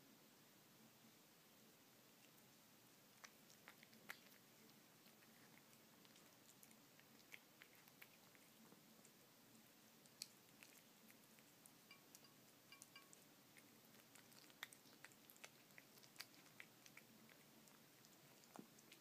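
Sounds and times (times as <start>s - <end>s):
cat chewing and licking: 2.0s - 19.0s.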